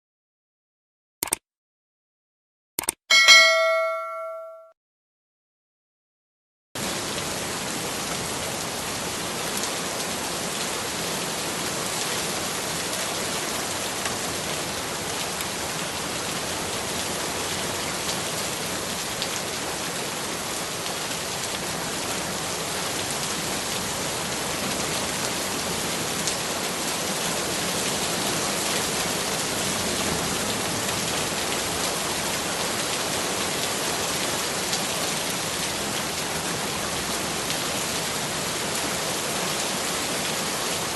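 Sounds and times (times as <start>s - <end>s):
steady rain falling: 6.8s - 40.9s.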